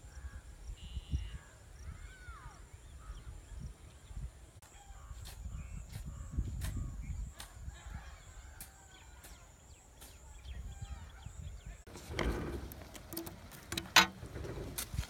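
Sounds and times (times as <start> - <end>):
birds chirping: 0.1 - 14.8.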